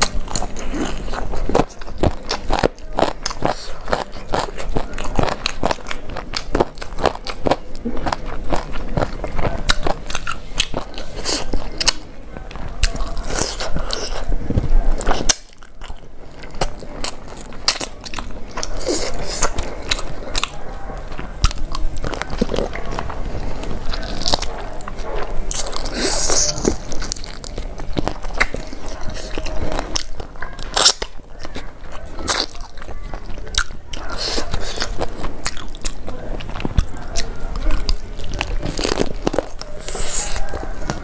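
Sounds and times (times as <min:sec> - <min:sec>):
biting and chewing crunches: 0:00.0 - 0:41.0.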